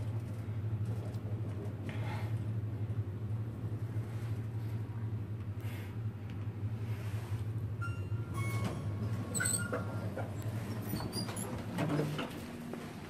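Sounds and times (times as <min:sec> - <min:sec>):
elevator car humming: 0:00.0 - 0:13.0.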